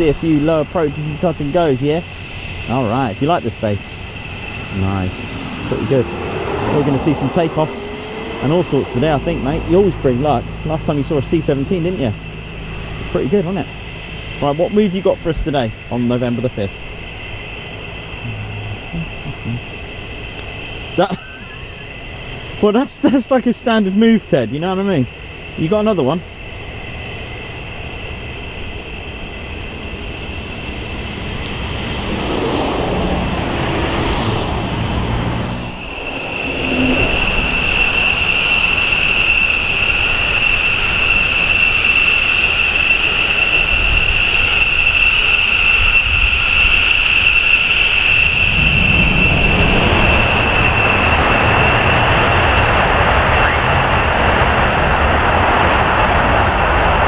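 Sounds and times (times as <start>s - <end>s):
jet engines whining and roaring: 0.0s - 57.0s.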